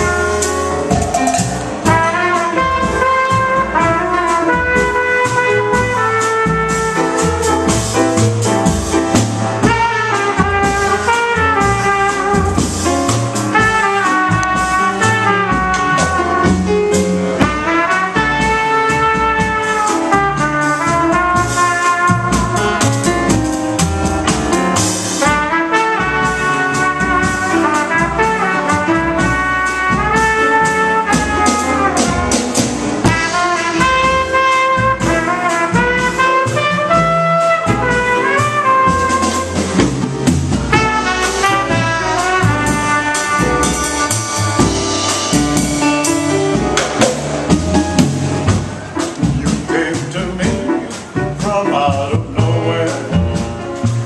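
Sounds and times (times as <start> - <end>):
jazz trumpet solo: 0.0 - 51.3
drum kit: 0.0 - 54.0
grand piano: 0.0 - 54.0.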